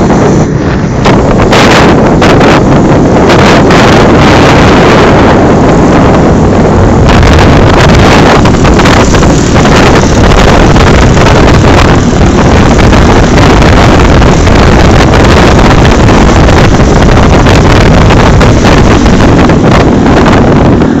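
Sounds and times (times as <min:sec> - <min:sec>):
motorcycle engine running: 0:00.0 - 0:21.0
wind rushing over microphone: 0:00.0 - 0:21.0.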